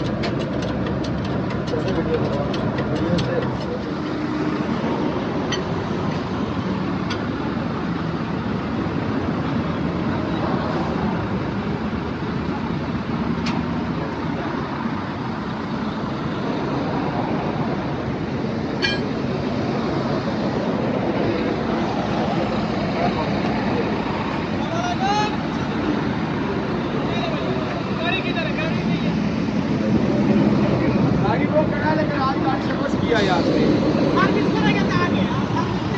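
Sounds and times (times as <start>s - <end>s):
vehicle rumble: 0.0s - 35.9s.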